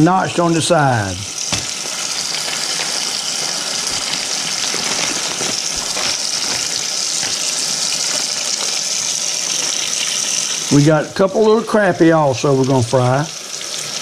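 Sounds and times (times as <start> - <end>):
tap water running: 0.0 - 14.0.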